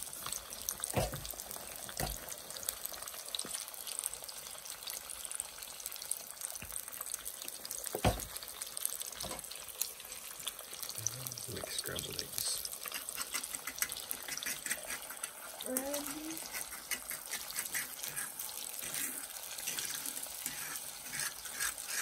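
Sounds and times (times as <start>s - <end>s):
eggs sizzling in a skillet: 0.0s - 22.0s.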